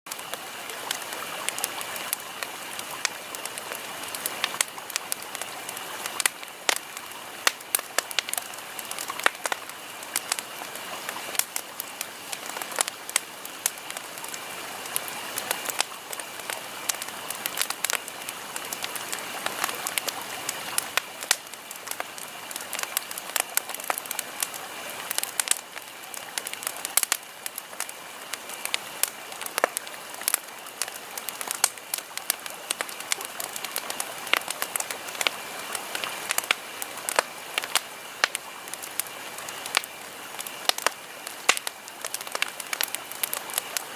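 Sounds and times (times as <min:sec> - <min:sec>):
campfire crackling and popping: 0:00.1 - 0:43.9
steady hiss: 0:00.1 - 0:43.9.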